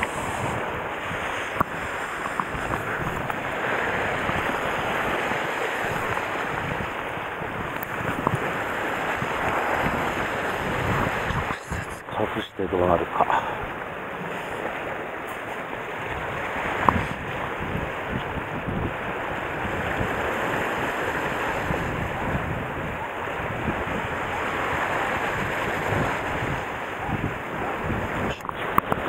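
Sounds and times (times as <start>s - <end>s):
waves washing against rocks: 0.0s - 29.0s
wind on microphone: 0.0s - 29.0s.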